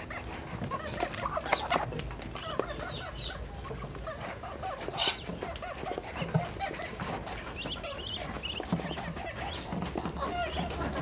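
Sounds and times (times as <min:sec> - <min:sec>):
poultry chirping: 0:00.0 - 0:11.0.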